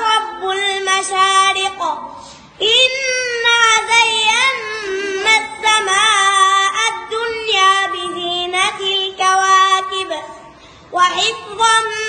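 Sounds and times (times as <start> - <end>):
child chanting melodically: 0.0 - 12.0.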